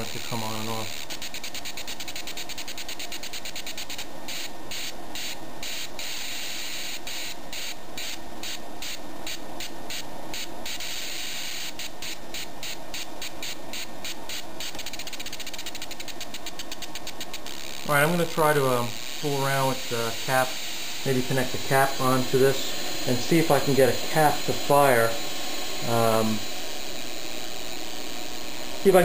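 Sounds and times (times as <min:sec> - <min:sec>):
high-voltage spark crackling: 0:00.0 - 0:29.0.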